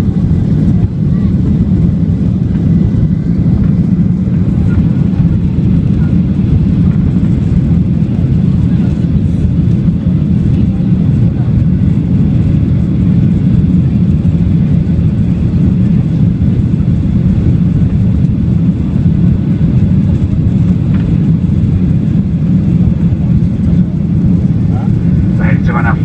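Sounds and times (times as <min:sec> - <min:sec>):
airplane cabin engine roar: 0:00.0 - 0:26.0.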